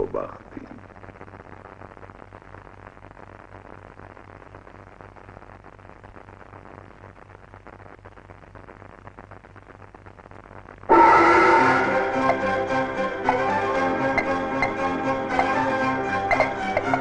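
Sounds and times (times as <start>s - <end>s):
film soundtrack hiss and crackle: 0.0s - 17.0s.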